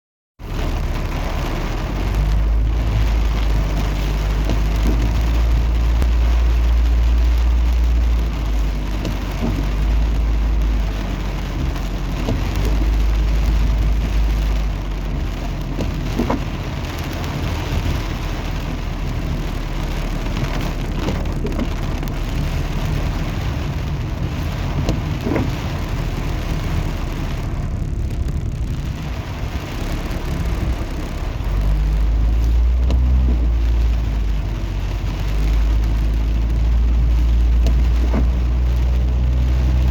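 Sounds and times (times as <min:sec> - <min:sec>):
heavy rain hissing: 0:00.4 - 0:39.9
raindrops ticking: 0:00.4 - 0:39.9.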